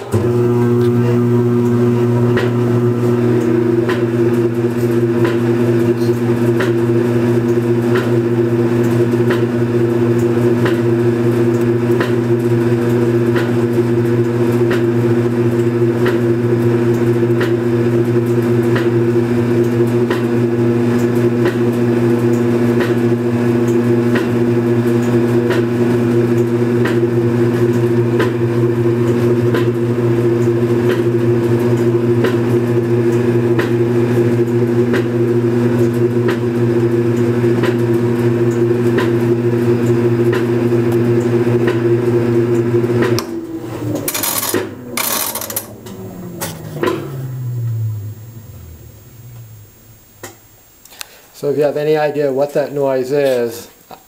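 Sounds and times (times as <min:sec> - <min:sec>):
washing machine motor hum: 0:00.0 - 0:50.8.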